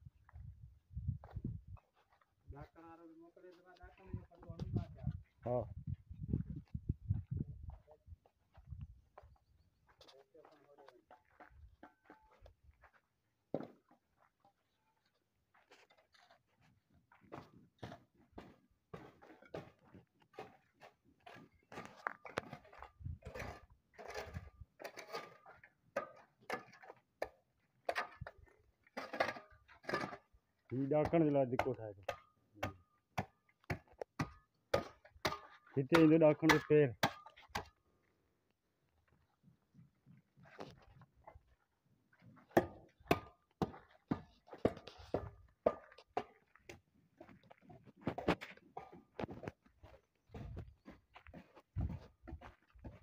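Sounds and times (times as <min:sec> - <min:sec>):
scraping in stony ground: 0:01.1 - 0:53.0.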